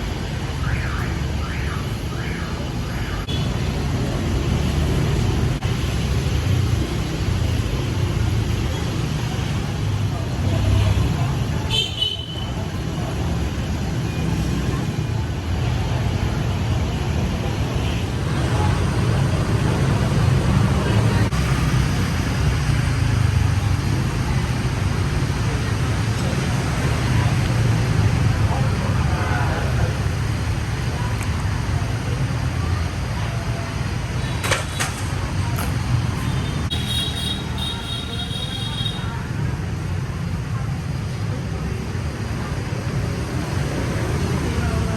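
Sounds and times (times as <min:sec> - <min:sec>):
street traffic rumble: 0:00.0 - 0:44.9.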